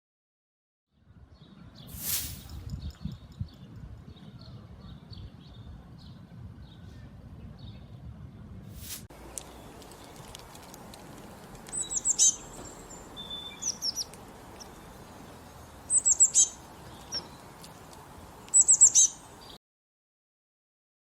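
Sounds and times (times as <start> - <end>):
faint outdoor background noise: 0.9 - 19.6
songbird singing: 0.9 - 19.6.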